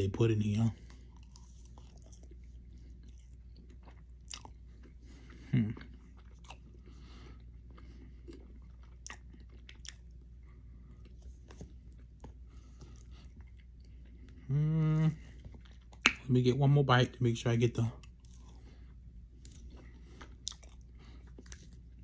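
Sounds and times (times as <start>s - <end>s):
person chewing food: 0.8s - 16.2s, 18.0s - 22.0s.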